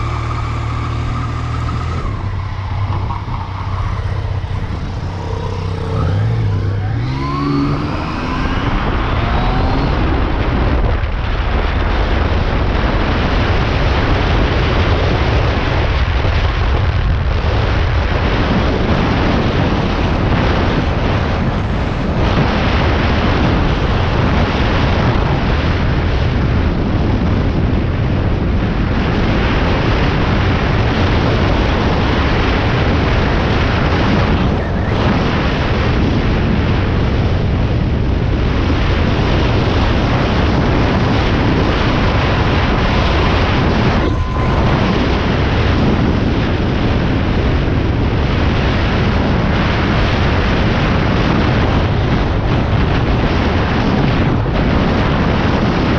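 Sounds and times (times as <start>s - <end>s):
air buffeting microphone: 0.0s - 55.9s
vehicle engine rumbling: 0.0s - 55.9s.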